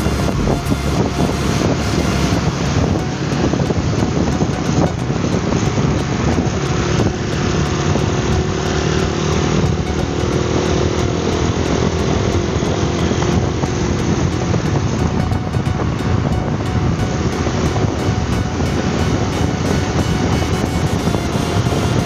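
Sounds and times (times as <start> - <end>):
motorcycle engine running: 0.0 - 22.0
wind rush on microphone: 0.0 - 22.0.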